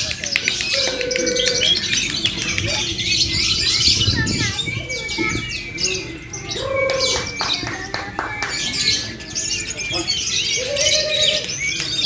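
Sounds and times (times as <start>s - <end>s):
lovebirds chattering and squawking: 0.0s - 12.0s
low warbling bird trill: 0.0s - 12.0s.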